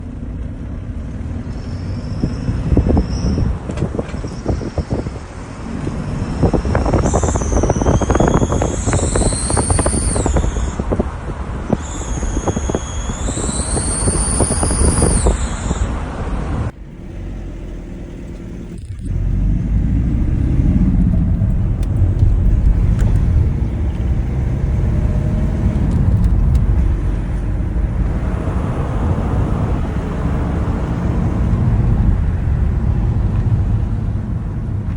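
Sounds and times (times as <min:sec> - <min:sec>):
diesel engine rumbling: 0:00.0 - 0:34.9.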